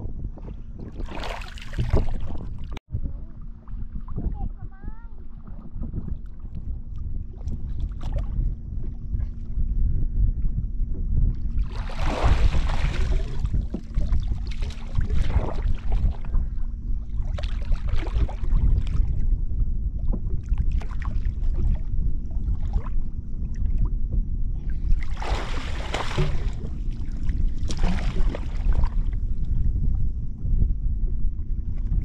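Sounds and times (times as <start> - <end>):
wind buffeting microphone: 0.0 - 32.0
water splashing and sloshing: 0.4 - 9.5, 11.4 - 19.4, 20.0 - 23.9, 24.6 - 30.0.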